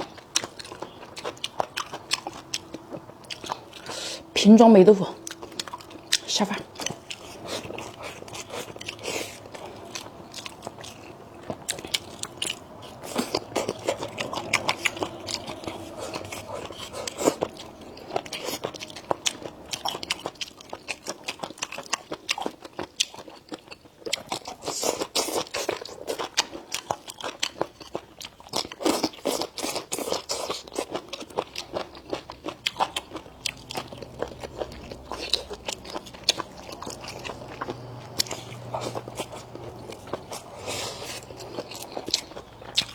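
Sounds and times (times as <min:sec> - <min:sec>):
crunching food: 0:00.0 - 0:04.3, 0:05.2 - 0:42.9
wet chewing: 0:00.0 - 0:42.9.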